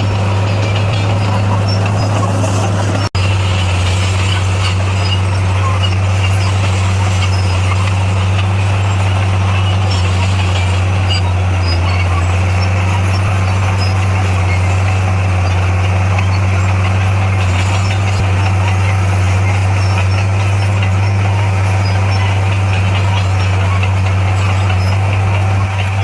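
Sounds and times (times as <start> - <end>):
bulldozer diesel engine running: 0.0 - 26.0
track and machinery noise: 0.0 - 26.0.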